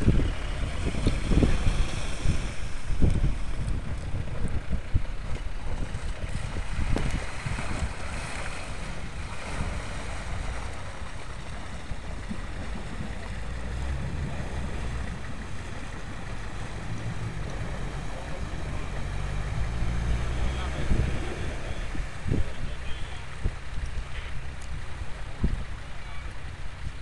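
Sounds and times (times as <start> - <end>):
water churning and splashing: 0.0 - 27.0
wind buffeting microphone: 0.0 - 27.0.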